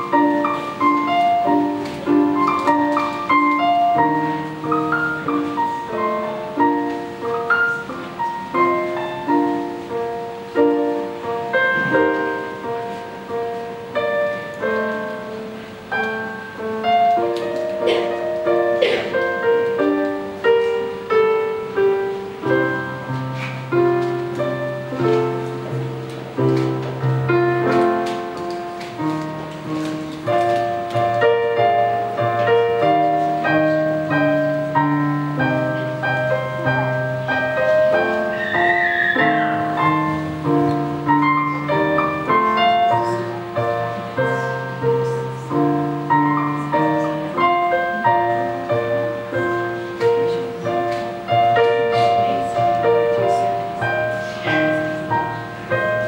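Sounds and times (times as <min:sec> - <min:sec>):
solo piano chords: 0:00.0 - 0:56.0.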